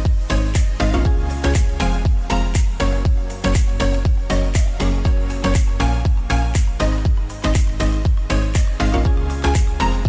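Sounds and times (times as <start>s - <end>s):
four-on-the-floor kick drum: 0.0s - 10.0s
synth chords: 0.0s - 10.0s.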